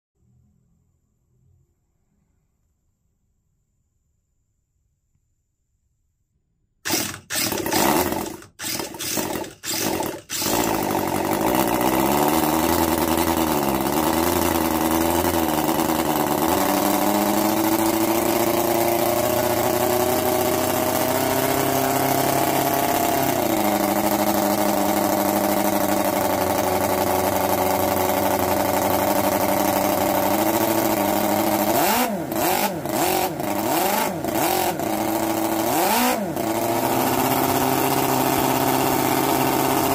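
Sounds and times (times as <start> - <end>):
model engine running: 6.9 - 39.9.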